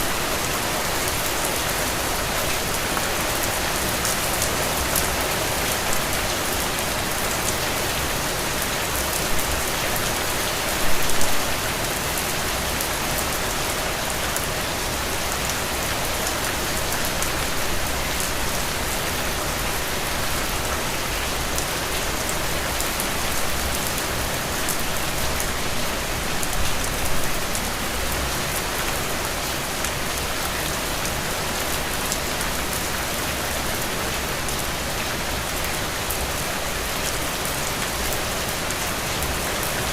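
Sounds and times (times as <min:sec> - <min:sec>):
louder rain patters: 0:00.0 - 0:39.9
steady rain falling: 0:00.0 - 0:39.9.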